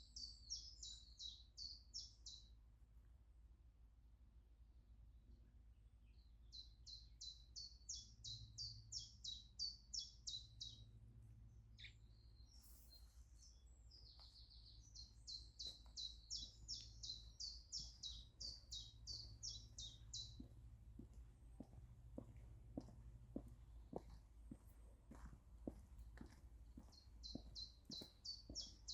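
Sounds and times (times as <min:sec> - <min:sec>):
songbird singing: 0:00.0 - 0:02.6, 0:06.0 - 0:28.9.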